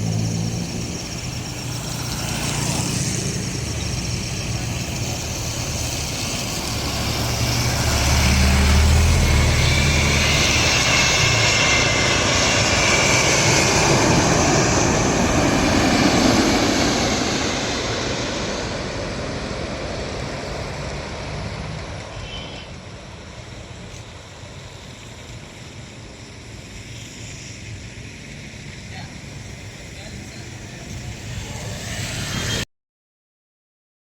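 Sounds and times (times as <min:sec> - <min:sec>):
jet engines passing by: 0:00.0 - 0:32.7.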